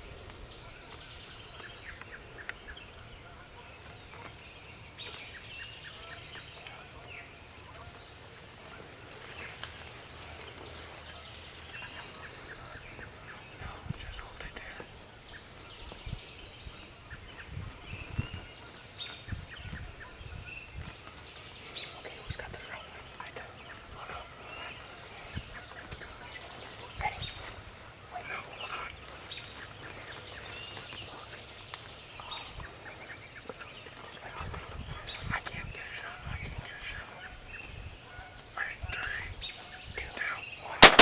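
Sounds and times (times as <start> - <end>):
songbirds chirping: 0.0 - 41.0
turkeys calling softly: 0.0 - 41.0.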